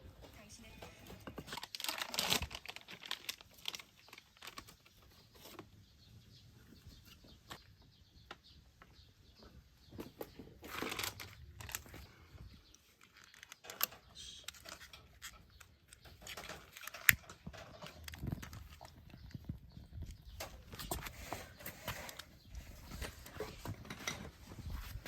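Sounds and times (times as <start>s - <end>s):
rustling of things handled: 0.0s - 25.0s.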